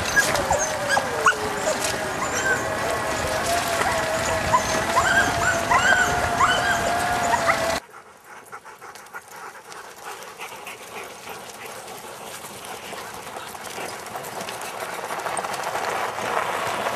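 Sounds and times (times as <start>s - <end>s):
sled dogs howling and yipping: 0.0s - 7.8s, 8.4s - 16.9s
puppies panting: 0.0s - 16.6s.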